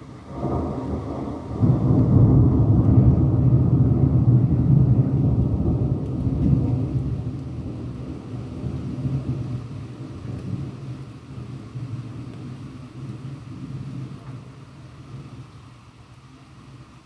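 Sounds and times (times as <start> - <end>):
thunder rumbling: 0.0 - 15.9.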